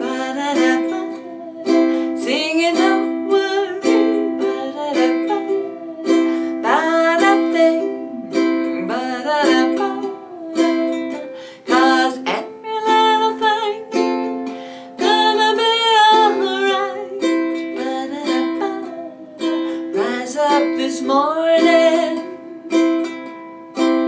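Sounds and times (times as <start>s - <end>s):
ukulele strumming: 0.0s - 24.0s
woman singing: 0.0s - 24.0s.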